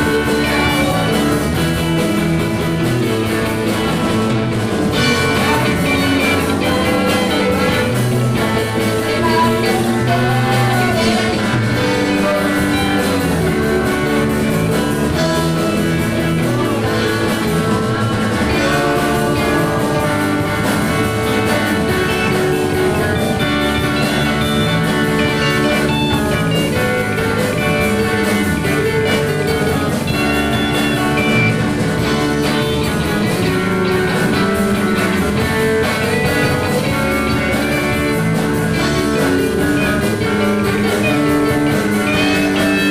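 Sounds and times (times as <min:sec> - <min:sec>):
band playing rock blues music: 0:00.0 - 0:42.9.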